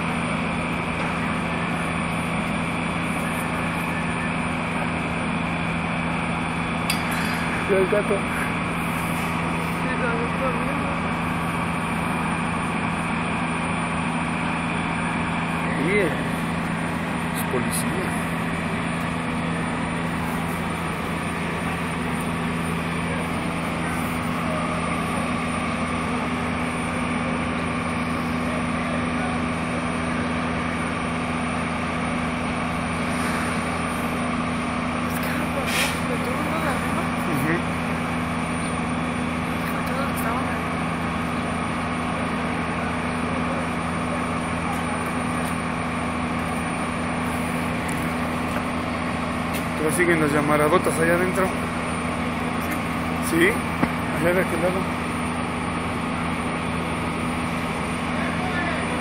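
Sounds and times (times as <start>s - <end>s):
droning machine rumble: 0.0s - 59.0s.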